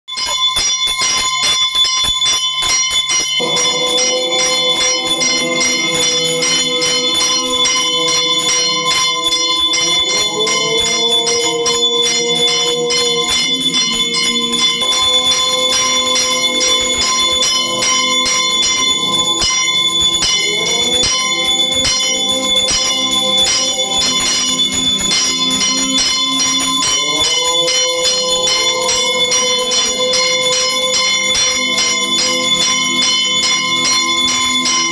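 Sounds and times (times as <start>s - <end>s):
temple bell ringing rapidly: 0.1s - 34.9s.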